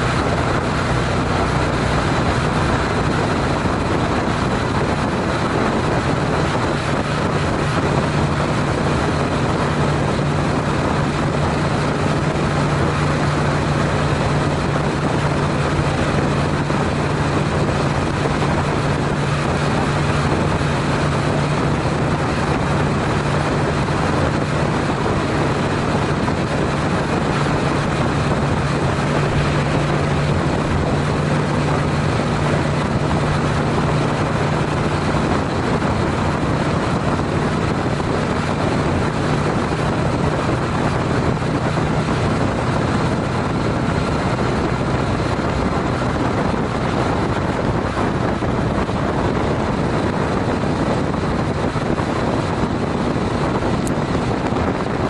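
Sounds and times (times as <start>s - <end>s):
motorcycle engine hum: 0.0s - 55.0s
wind and road noise: 0.0s - 55.0s.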